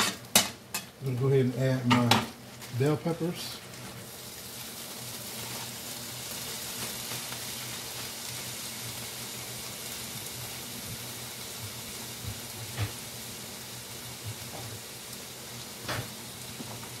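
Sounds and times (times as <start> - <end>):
peppers sizzling in oil: 0.0 - 17.0.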